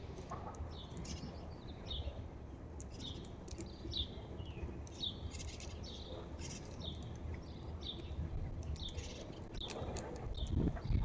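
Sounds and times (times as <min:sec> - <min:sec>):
chirps and ticks: 0:00.0 - 0:11.0.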